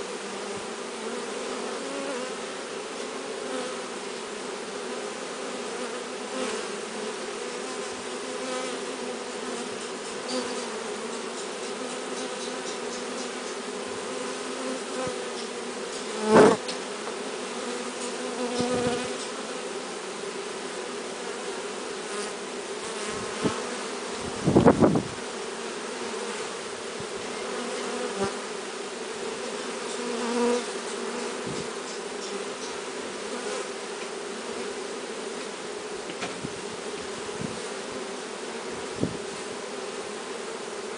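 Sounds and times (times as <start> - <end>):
bee swarm buzzing: 0.0 - 40.9.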